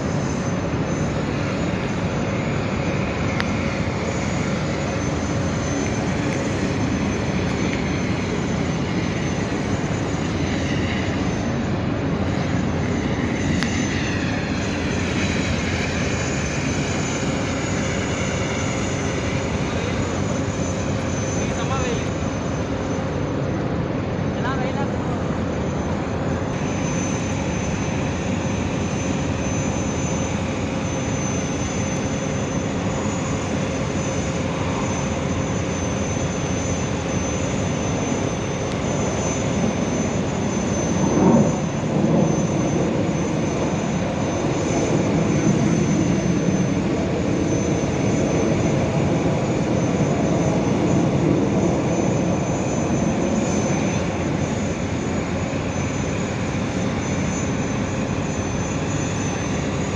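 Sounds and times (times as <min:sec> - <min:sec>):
jet engines rumbling overhead: 0:00.0 - 0:59.9.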